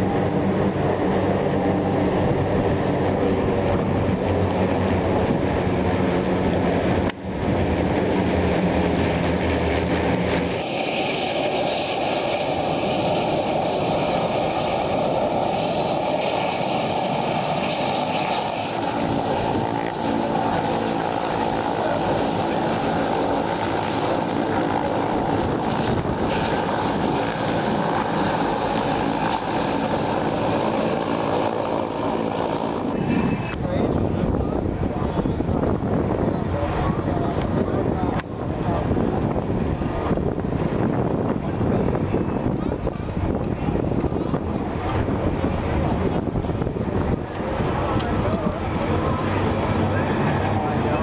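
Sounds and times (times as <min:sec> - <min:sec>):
propeller airplane engines droning: 0:00.0 - 0:51.0.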